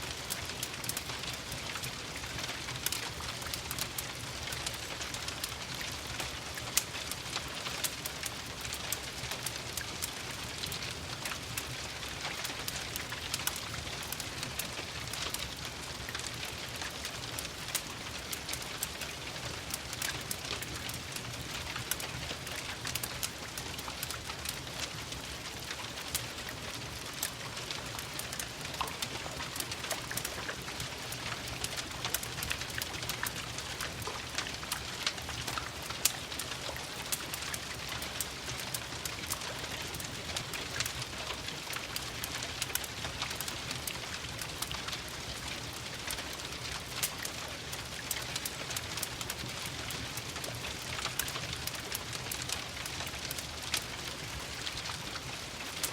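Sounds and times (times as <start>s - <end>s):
steady rain: 0.0s - 55.9s
wood fire crackling: 0.0s - 55.9s.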